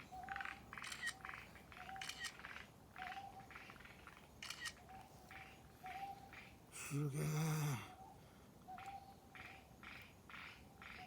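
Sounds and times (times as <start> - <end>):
frogs croaking: 0.0 - 7.8, 8.7 - 11.0.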